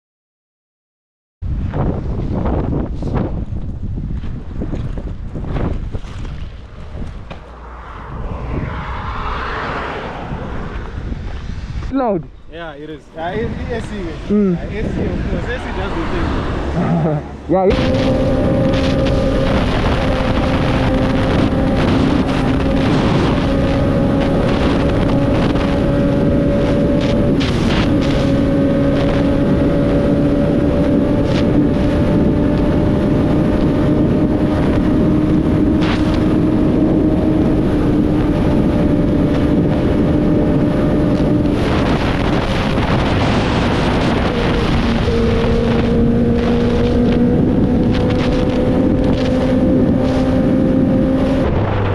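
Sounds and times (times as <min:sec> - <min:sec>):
wind buffeting microphone: 0:01.4 - 0:51.9
motorcycle engine droning: 0:01.5 - 0:51.9.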